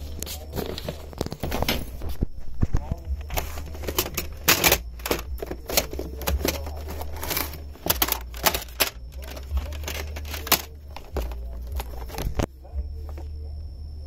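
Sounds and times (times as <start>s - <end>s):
plastic cd cases clacking: 0.0s - 12.5s.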